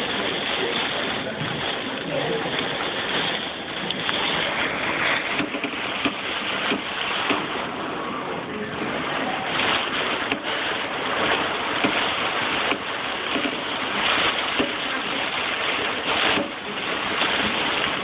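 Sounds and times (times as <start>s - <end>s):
driving rain: 0.0s - 18.0s
strong wind: 0.0s - 18.0s
waves breaking against shore: 0.0s - 18.0s.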